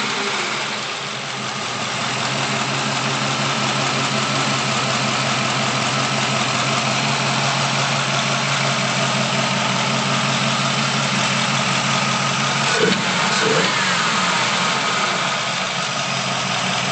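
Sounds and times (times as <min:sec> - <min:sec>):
engine idling through open exhaust: 0:00.0 - 0:16.9.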